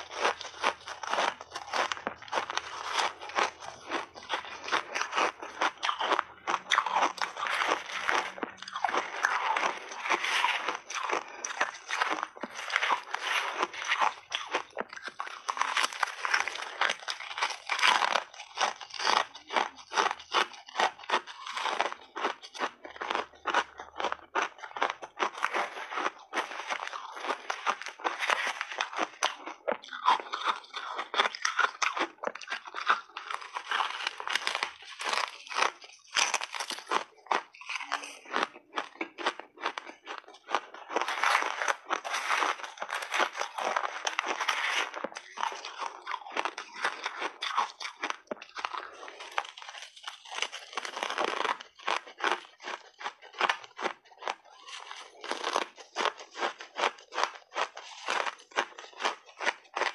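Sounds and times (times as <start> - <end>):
crunching and chewing ice: 0.0 - 59.9.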